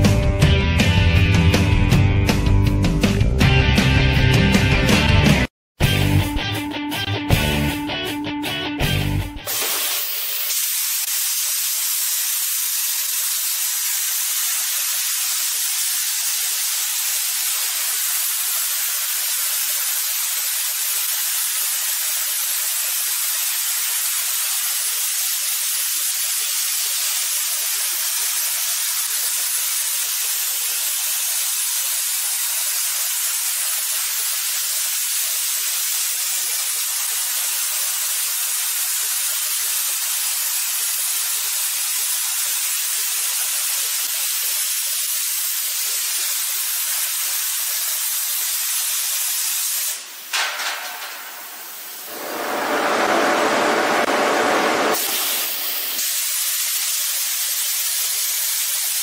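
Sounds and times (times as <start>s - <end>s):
plasma torch hissing: 9.4s - 59.0s.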